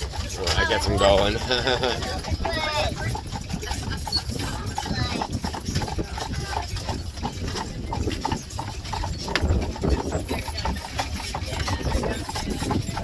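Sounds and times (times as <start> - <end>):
horse hooves clip-clopping: 0.0 - 13.0
rumble of rolling buggy: 0.0 - 13.0.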